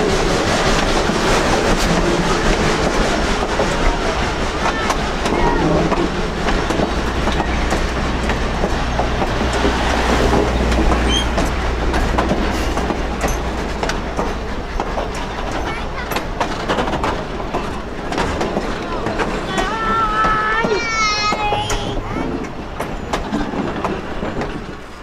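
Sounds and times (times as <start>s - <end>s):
train wheels rumbling on rail: 0.0s - 25.0s
wheels clacking over track: 0.0s - 25.0s.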